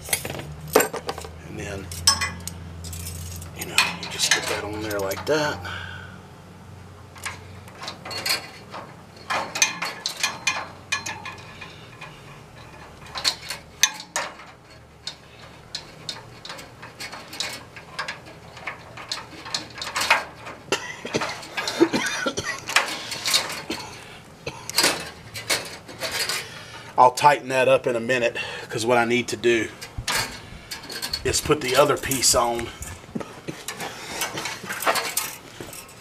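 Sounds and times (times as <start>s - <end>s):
small metallic clicks and rattles: 0.0s - 5.5s, 7.1s - 26.8s, 29.8s - 36.0s.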